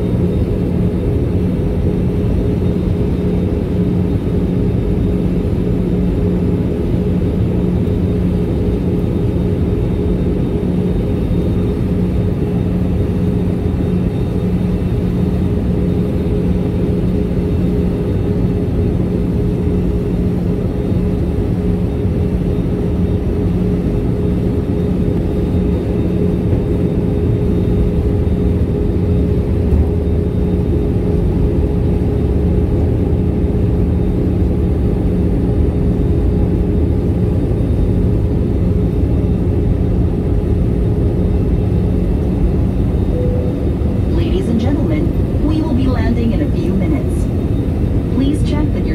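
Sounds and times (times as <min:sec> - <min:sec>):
airplane cabin engine roar: 0:00.0 - 0:48.9.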